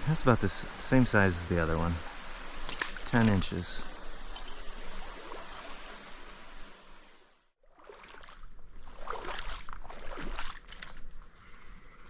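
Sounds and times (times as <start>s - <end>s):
stream water splashing: 0.0s - 11.2s.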